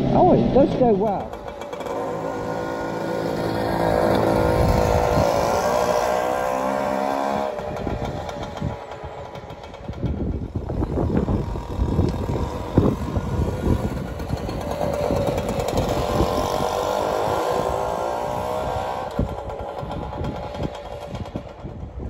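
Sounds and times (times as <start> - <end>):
moped engine buzzing past: 0.0 - 22.0.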